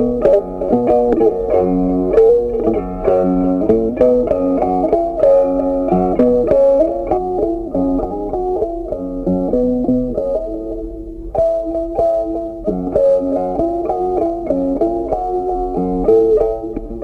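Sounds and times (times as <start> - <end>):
plucked guitar tune: 0.0 - 17.0.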